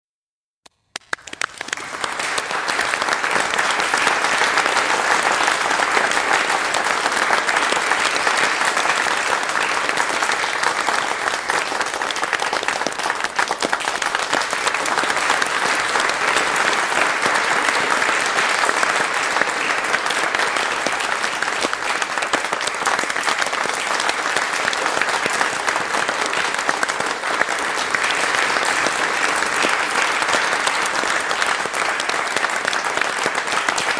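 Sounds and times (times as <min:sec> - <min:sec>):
crowd applauding: 0:00.8 - 0:33.9.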